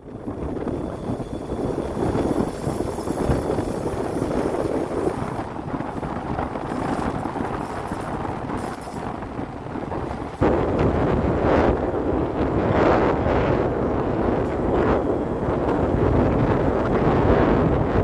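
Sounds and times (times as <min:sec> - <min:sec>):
train rumbling by: 0:00.0 - 0:18.0
wind buffeting microphone: 0:00.0 - 0:18.0.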